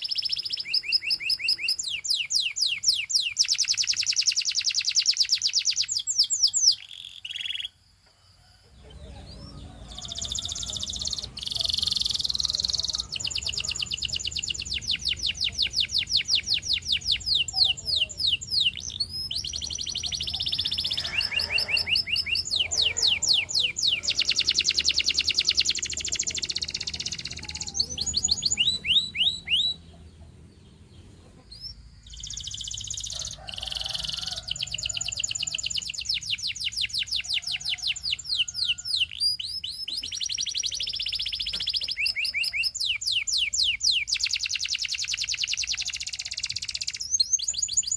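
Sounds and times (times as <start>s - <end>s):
canary singing in trills: 0.0s - 47.9s.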